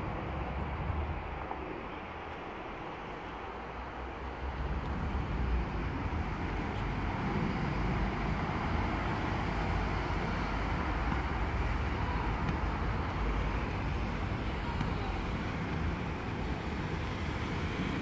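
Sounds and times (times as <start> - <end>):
road traffic rumble and hiss: 0.0 - 18.0.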